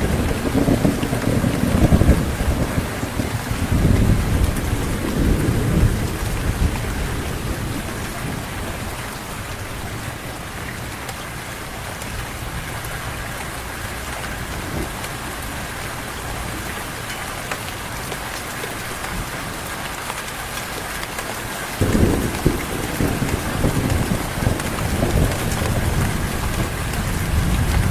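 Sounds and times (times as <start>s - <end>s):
thunder rumble: 0.0s - 17.4s, 21.8s - 27.9s
heavy rain falling: 0.0s - 27.9s.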